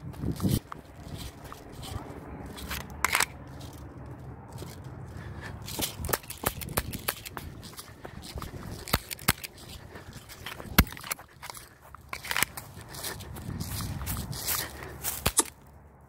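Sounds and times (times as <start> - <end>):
footsteps on dry grass: 0.0 - 16.0.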